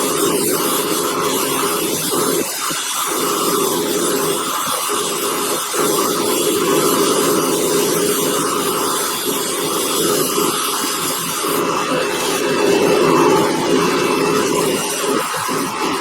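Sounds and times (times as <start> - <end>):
bench wheel motor running: 0.0 - 16.0.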